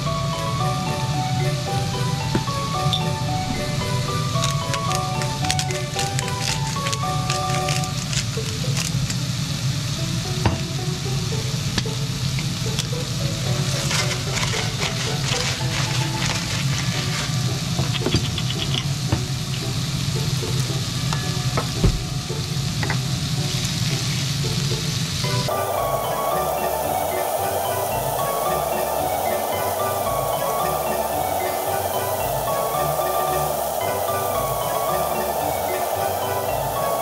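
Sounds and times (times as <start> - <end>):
pork sizzling in frying pan: 0.1 - 37.0.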